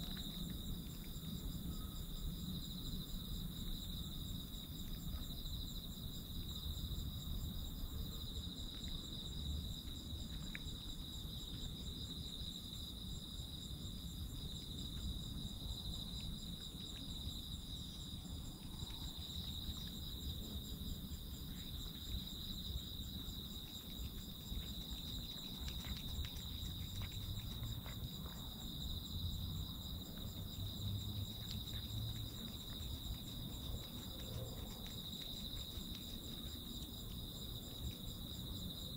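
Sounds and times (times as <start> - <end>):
crickets chirping: 0.0 - 38.9
low background noise: 0.0 - 38.9.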